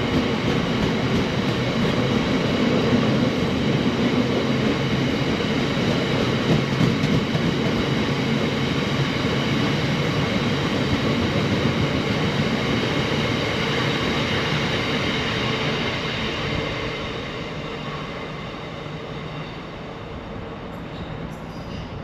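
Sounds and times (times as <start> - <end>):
train running past: 0.0 - 22.0.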